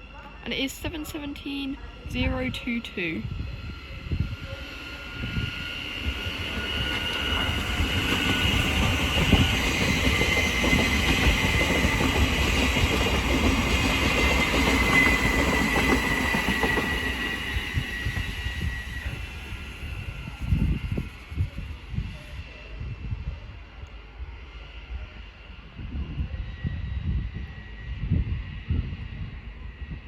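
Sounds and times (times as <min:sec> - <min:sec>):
high whine of train: 0:00.0 - 0:30.0
train wheels rumbling on rail: 0:00.3 - 0:30.0.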